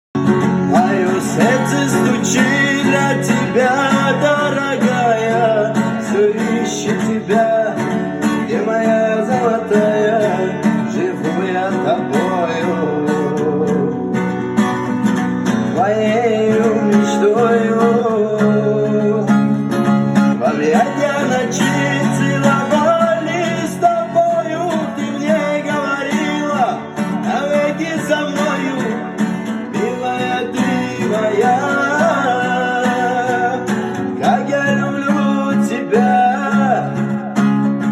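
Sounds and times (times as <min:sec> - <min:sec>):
acoustic guitar: 0:00.0 - 0:37.9
person singing: 0:00.2 - 0:14.3, 0:15.6 - 0:19.5, 0:20.4 - 0:37.9.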